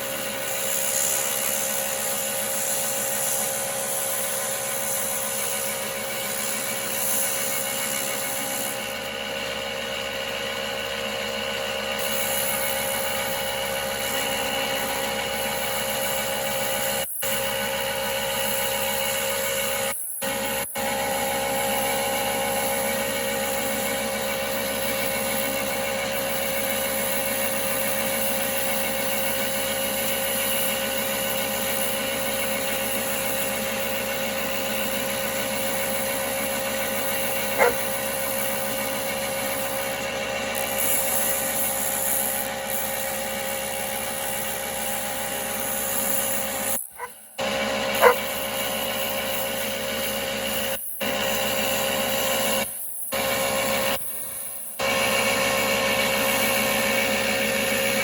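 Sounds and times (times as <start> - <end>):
wood lathe motor humming: 0.0 - 58.0.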